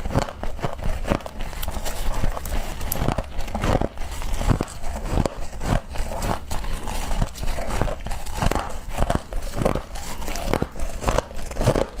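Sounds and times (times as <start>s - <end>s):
crunchy chewing of frost: 0.0s - 12.0s.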